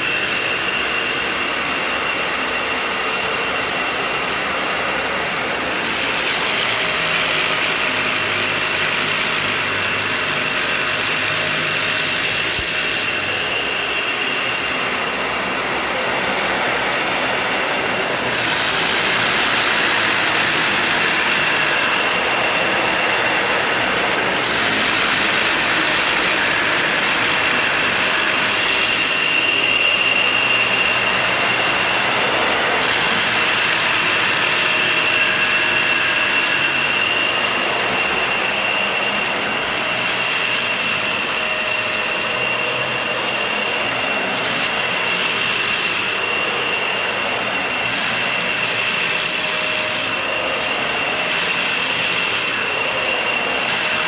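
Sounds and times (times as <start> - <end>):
vacuum cleaner on rug: 0.0 - 54.0.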